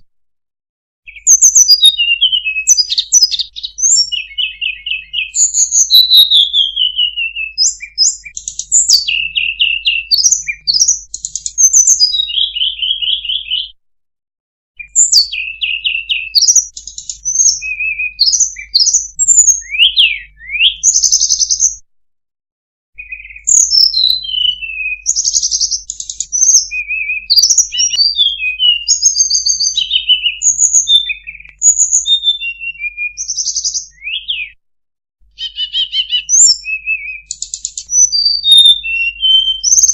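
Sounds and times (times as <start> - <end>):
recorded bird song: 1.1 - 13.8, 14.8 - 21.9, 23.0 - 34.6, 35.2 - 39.9.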